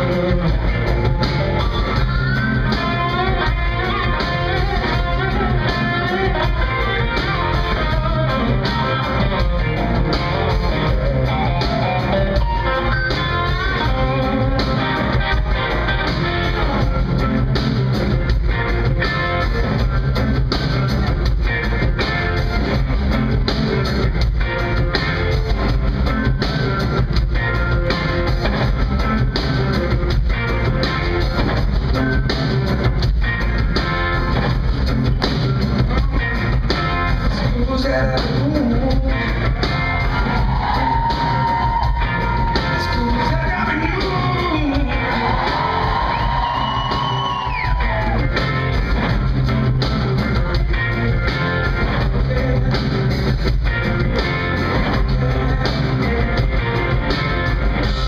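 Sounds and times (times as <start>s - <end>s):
bass and drum kit: 0.0s - 58.0s
electric guitars: 0.0s - 58.0s.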